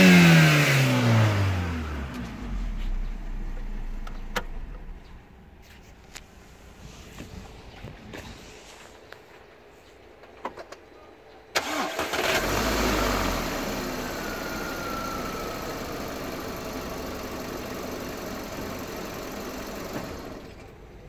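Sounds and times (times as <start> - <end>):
car engine starting and idling: 0.0 - 7.6, 11.5 - 21.0.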